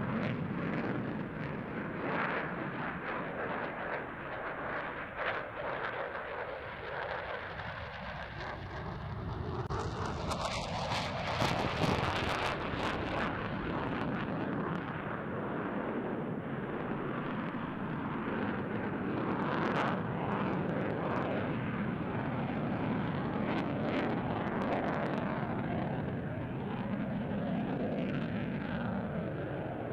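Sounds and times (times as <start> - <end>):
jet fighter engines roaring: 0.0 - 29.9.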